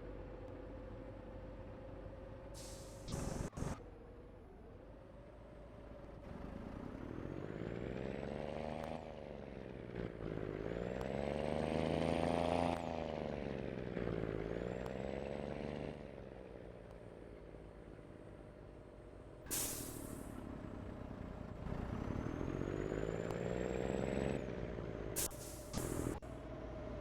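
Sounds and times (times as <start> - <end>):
diesel engine pulling through gears: 0.0 - 27.0.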